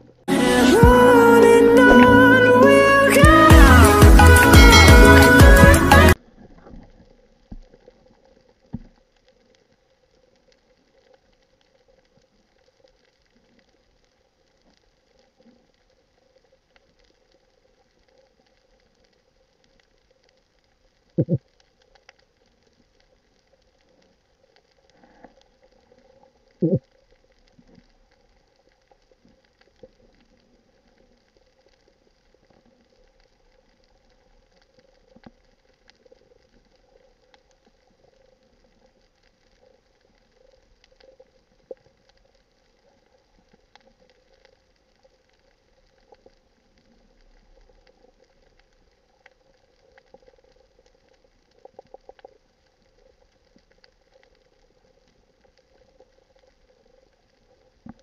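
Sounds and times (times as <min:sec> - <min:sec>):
faint crackling clicks underwater: 0:00.0 - 0:00.3, 0:06.1 - 0:58.0.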